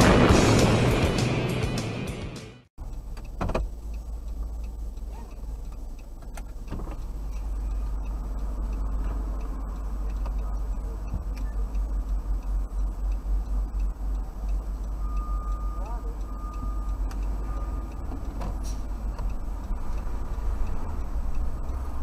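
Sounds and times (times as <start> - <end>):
car engine idling: 2.8 - 22.0
faint ticking: 2.8 - 22.0.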